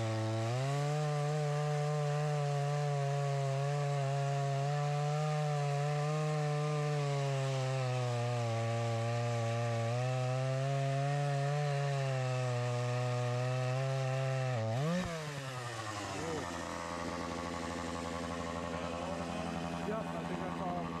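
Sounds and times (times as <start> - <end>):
chainsaw cutting tree trunk: 0.0 - 21.0.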